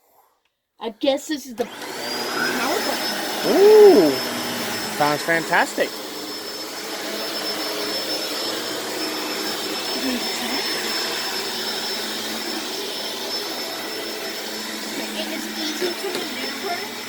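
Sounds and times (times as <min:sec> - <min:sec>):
vacuum cleaner whining: 0:01.6 - 0:17.0.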